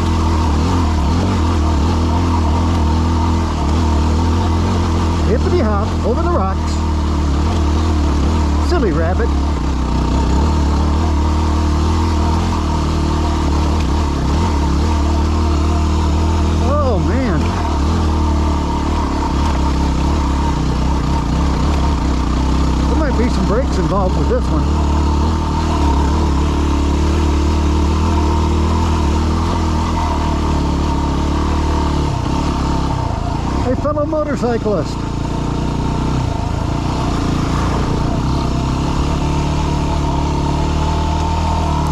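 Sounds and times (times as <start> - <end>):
motorcycle engine under load: 0.0 - 41.9.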